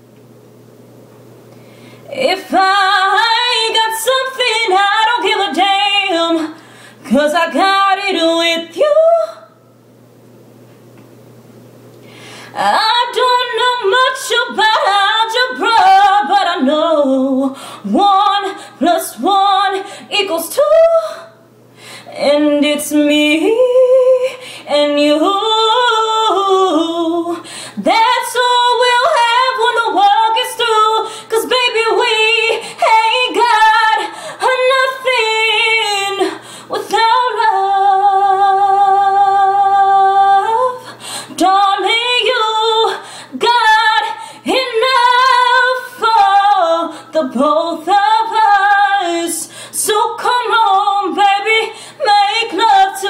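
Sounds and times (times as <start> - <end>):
woman singing unaccompanied: 2.1 - 9.6, 12.6 - 21.4, 22.1 - 53.0.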